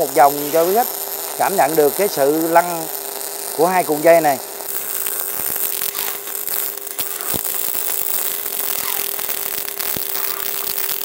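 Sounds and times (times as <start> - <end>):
sharp welding pops: 0.0 - 11.0
steady hum: 0.0 - 11.0
welding arc crackling: 0.0 - 11.0.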